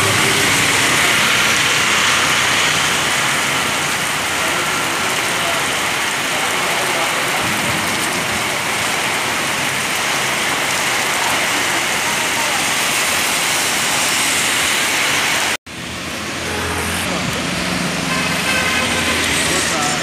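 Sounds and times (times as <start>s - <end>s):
heavy rain on road and trees: 0.0s - 20.0s.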